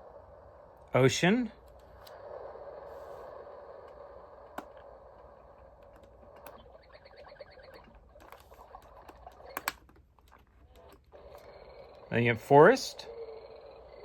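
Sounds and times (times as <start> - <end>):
nature sounds from small speaker: 0.0 - 14.0.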